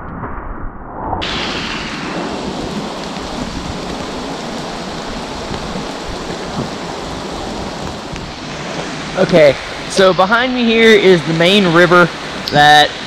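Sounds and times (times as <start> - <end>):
storm water rushing: 0.0 - 13.0.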